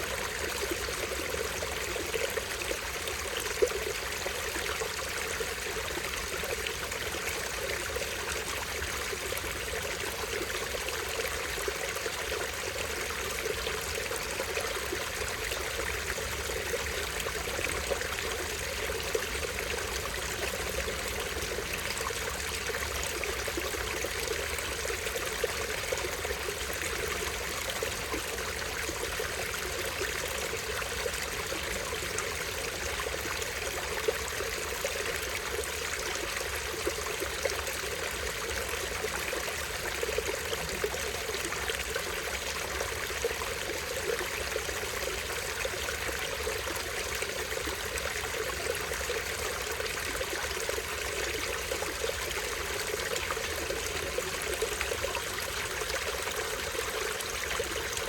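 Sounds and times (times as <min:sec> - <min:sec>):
stream splashing over small waterfall: 0:00.0 - 0:58.0.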